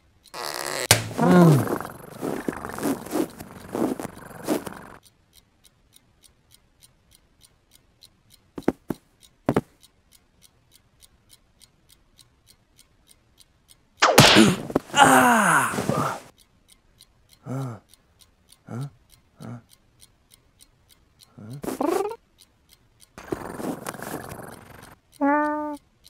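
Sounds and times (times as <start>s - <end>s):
soft clicks: 0.0s - 14.9s, 15.8s - 26.0s
clock ticking: 0.0s - 26.0s.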